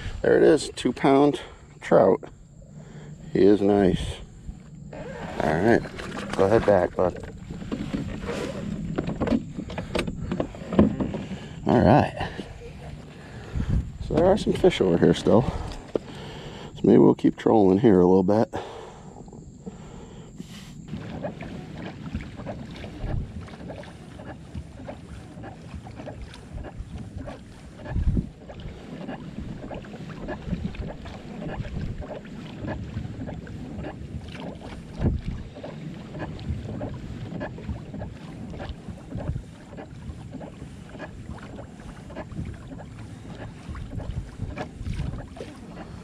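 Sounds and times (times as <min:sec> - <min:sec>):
wind on microphone: 0:00.0 - 0:01.1, 0:03.3 - 0:17.1, 0:20.5 - 0:46.0
water lapping against hull: 0:00.0 - 0:46.0.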